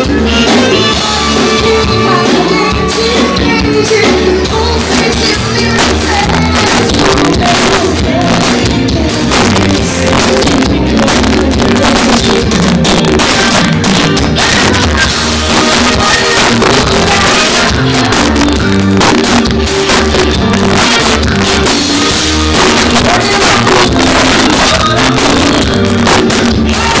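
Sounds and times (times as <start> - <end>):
live band playing: 0.0 - 27.0
steady bass beat: 0.0 - 27.0
woman singing lead: 0.0 - 27.0.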